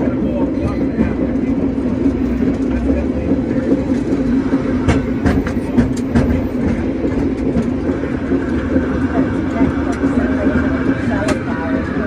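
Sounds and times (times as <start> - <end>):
cable car running hum: 0.0 - 12.0
sharp clicks and rattles: 0.3 - 12.0.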